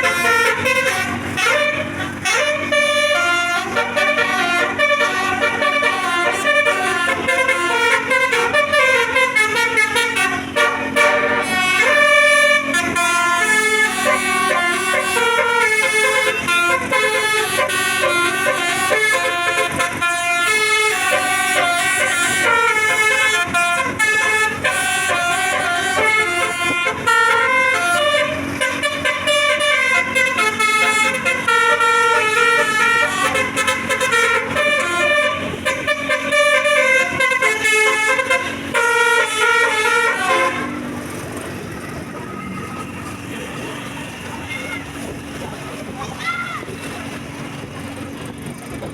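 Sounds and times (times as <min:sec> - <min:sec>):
bus horn playing a tune: 0:00.0 - 0:45.4.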